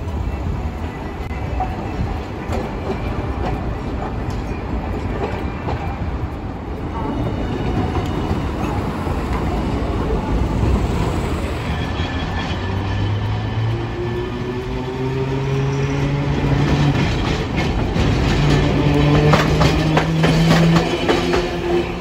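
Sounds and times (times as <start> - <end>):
road traffic: 0.0 - 22.0
steel wheels rumbling on rails: 0.0 - 22.0.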